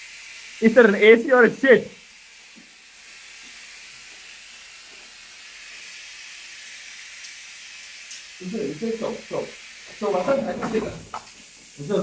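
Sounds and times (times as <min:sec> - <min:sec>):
gas hissing from tube: 0:00.0 - 0:12.0.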